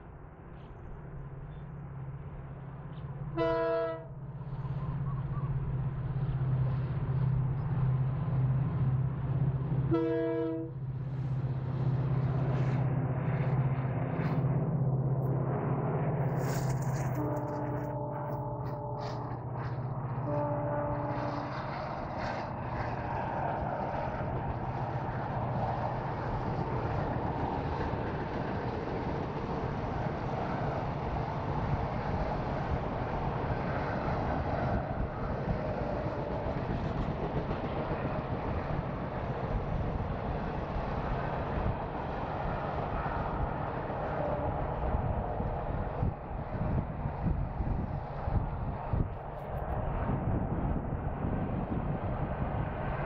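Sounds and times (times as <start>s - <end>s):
passenger train passing: 0.0s - 53.0s.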